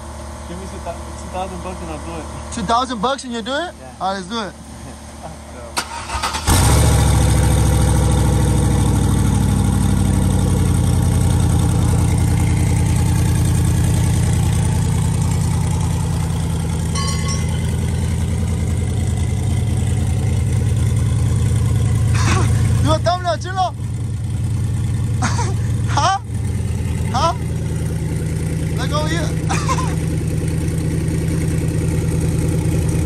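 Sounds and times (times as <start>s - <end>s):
truck engine starting and idling: 4.9s - 33.0s.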